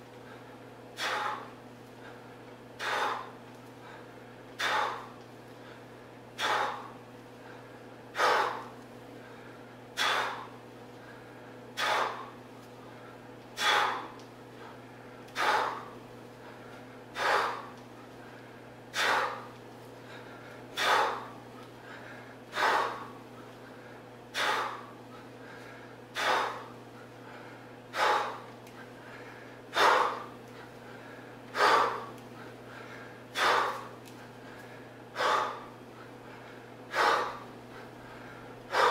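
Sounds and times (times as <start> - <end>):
man huffing breaths: 0.2 - 38.9.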